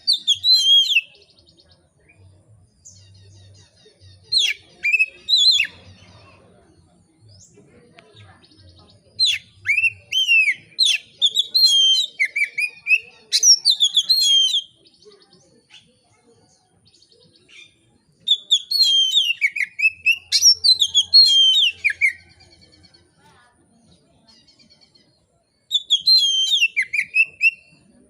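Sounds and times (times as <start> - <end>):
songbird singing whistled notes: 0.0 - 28.0.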